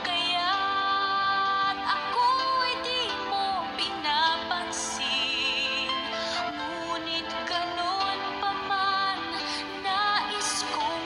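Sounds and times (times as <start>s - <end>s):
woman singing a ballad: 0.0s - 11.0s.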